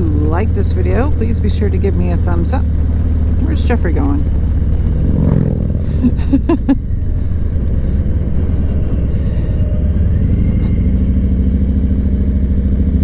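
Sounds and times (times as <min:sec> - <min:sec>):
road noise: 0:00.0 - 0:13.0
vehicle engine rumbling: 0:00.0 - 0:13.0.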